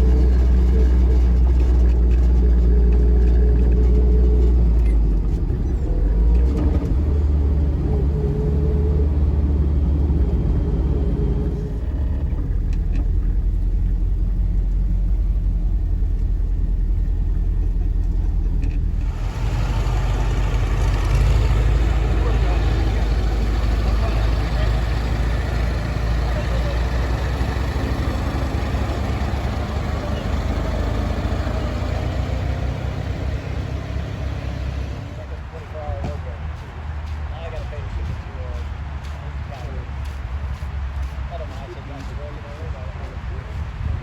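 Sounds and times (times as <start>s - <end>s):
car engine rumbling: 0.0s - 44.0s.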